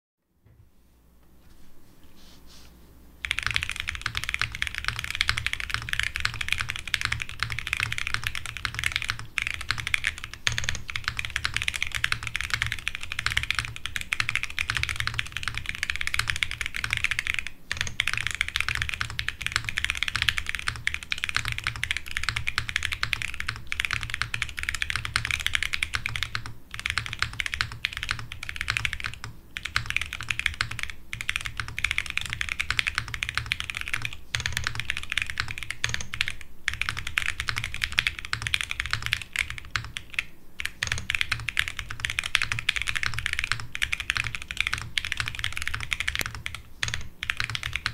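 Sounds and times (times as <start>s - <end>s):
steady low hum: 0.3s - 47.9s
fast typing on mechanical keyboard: 3.2s - 47.9s.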